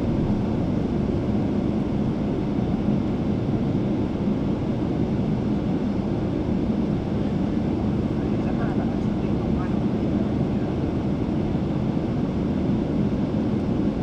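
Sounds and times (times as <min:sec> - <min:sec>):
airliner cabin hum and rush: 0:00.0 - 0:14.0.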